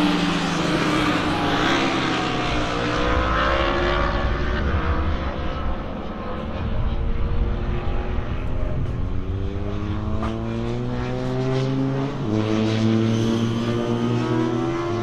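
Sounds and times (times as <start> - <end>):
racing motorcycle engine accelerating: 0.0 - 15.0.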